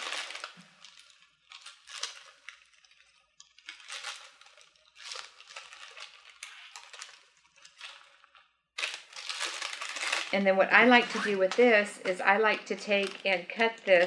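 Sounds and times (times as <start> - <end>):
ribbon rustling: 0.0 - 14.0.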